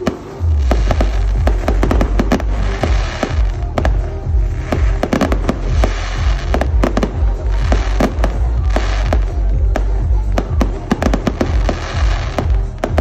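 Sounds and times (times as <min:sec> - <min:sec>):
fireworks bangs and crackles: 0:00.0 - 0:13.0
loud music with deep bass: 0:00.0 - 0:13.0.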